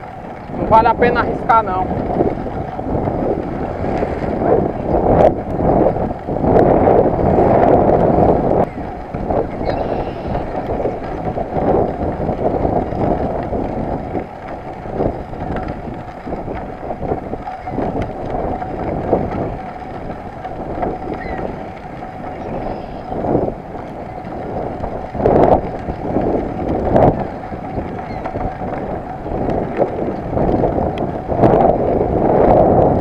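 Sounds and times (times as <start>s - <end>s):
bike tyres rolling on gravel: 0.0s - 33.0s
wind buffeting microphone: 0.0s - 33.0s.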